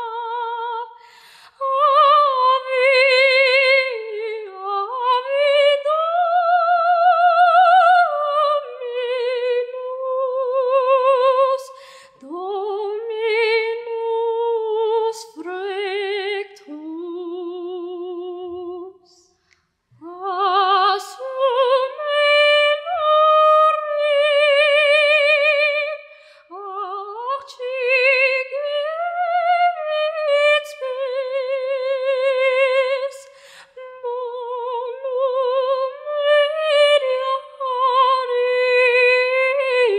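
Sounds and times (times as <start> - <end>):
girl singing with vibrato: 0.0 - 19.2, 20.0 - 39.9.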